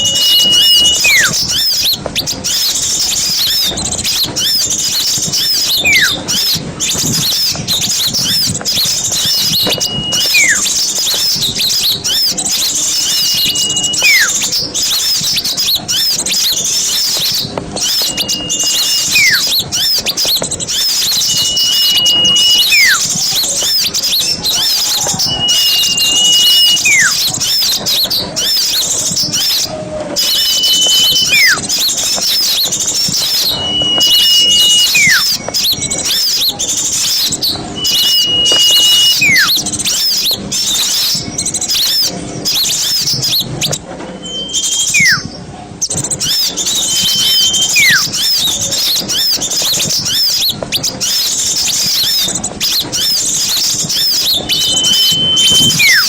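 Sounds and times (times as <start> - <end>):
clear whistle: 0.0 - 56.0
falling whistle: 0.0 - 56.0
songbirds chirping: 0.0 - 56.0.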